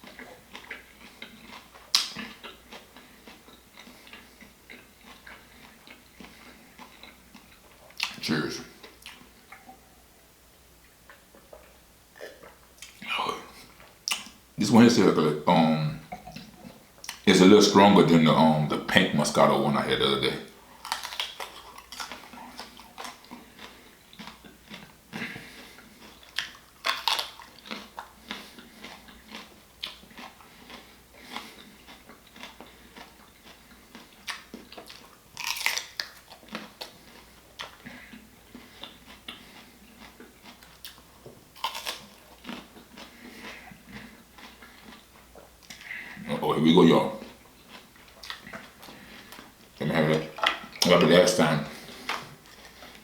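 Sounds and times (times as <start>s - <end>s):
person chewing food: 0.0s - 14.4s, 15.6s - 17.8s, 20.5s - 53.0s.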